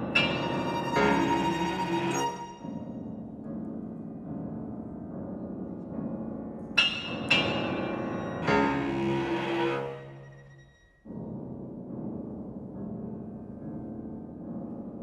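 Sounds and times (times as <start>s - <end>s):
piano trio playing chamber music: 0.0s - 15.0s.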